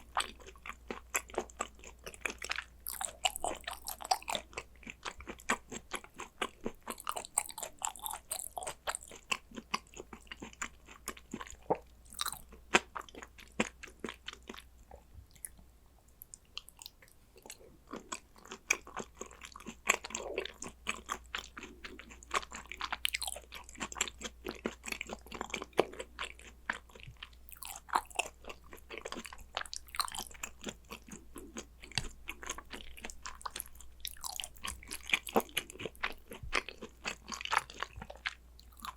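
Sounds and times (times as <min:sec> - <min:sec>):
person chewing wet food: 0:00.0 - 0:38.9.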